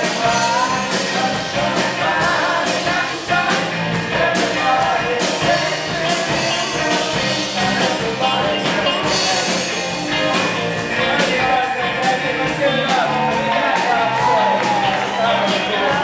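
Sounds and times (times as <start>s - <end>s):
bass guitar: 0.0s - 16.0s
drum kit beat: 0.0s - 16.0s
electric guitars: 0.0s - 16.0s
person singing: 0.0s - 16.0s.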